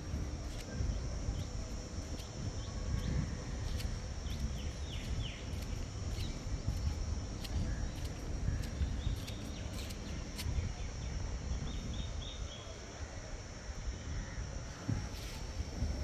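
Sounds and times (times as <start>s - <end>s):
high-pitched hum: 0.0s - 16.0s.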